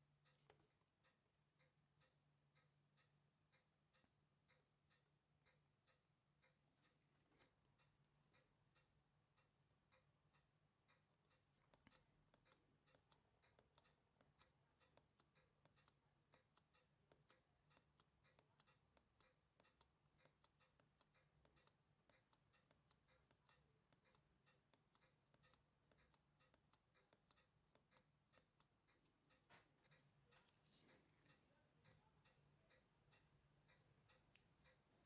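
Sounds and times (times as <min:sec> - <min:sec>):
watch ticking: 0:00.0 - 0:35.0.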